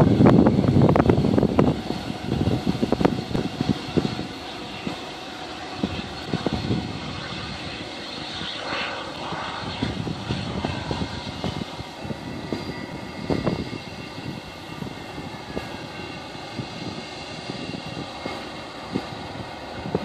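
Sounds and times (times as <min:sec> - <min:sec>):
distant jet engines whining: 0:00.0 - 0:20.0
wind buffeting microphone: 0:00.0 - 0:20.0.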